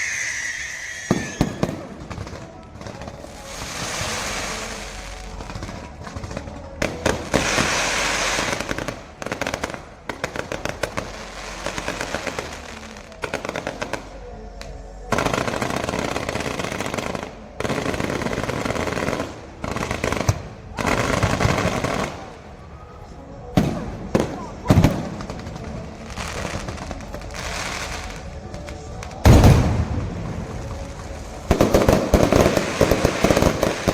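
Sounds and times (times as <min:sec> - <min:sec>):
fireworks popping and crackling: 0:00.0 - 0:33.9
music: 0:00.0 - 0:33.9.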